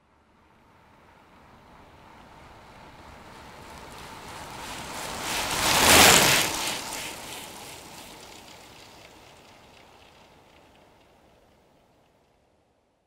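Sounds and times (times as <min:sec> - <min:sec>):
bicycle rushing past: 0:00.8 - 0:12.0.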